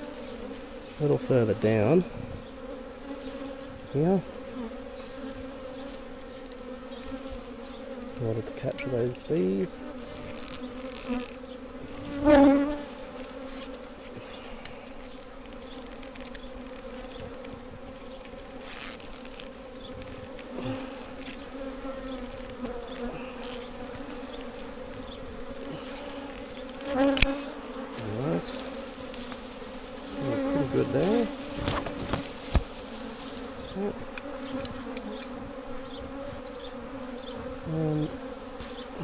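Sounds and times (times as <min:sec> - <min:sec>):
bee passing close: 0:00.0 - 0:39.0
bees buzzing: 0:00.0 - 0:39.0.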